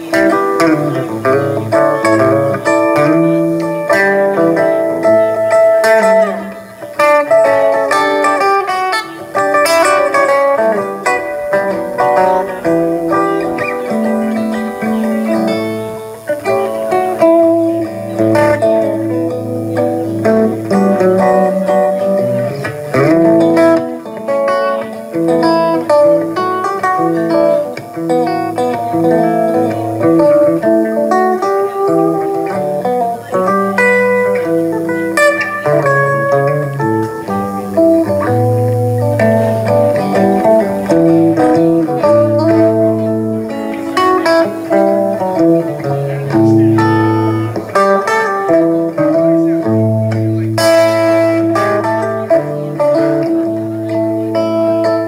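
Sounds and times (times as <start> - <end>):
electric guitar lead lines: 0.0 - 55.0
electric guitar low notes: 0.0 - 55.0.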